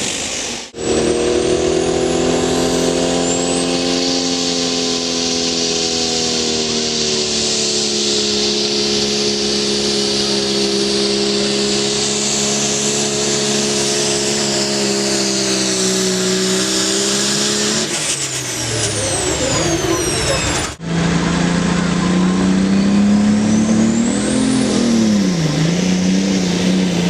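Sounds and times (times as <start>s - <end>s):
engine running at high revs: 0.0s - 27.0s.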